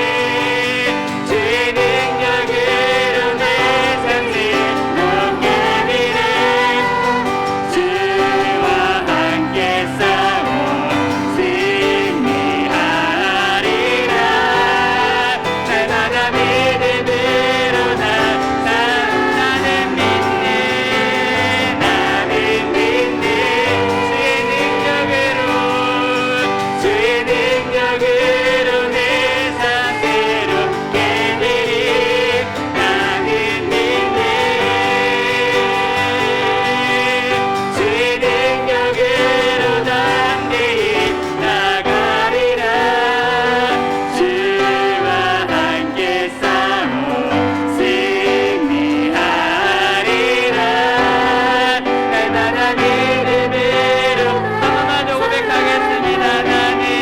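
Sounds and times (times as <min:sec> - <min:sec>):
person singing: 0:00.0 - 0:57.0
piano accompaniment: 0:00.0 - 0:57.0.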